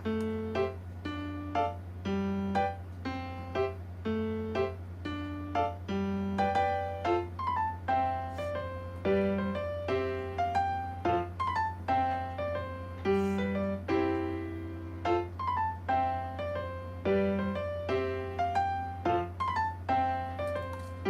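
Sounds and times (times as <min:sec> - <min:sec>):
gentle piano tune: 0:00.0 - 0:21.0
steady low hum: 0:00.0 - 0:21.0.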